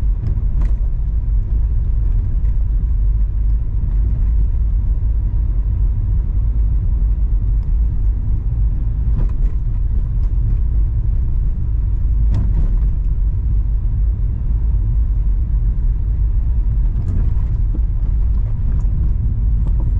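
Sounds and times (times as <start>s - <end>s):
car tyres and engine rumble: 0.0s - 19.9s.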